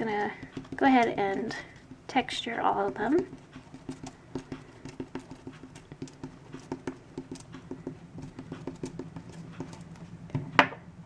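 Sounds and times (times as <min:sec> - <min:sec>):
toothbrush tapping on clay: 0:00.0 - 0:10.8.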